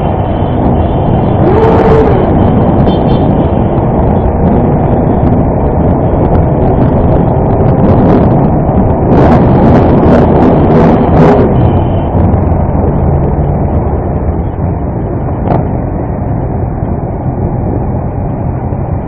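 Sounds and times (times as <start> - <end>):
road noise: 0.0 - 19.0
wind rushing over microphone: 0.0 - 19.0.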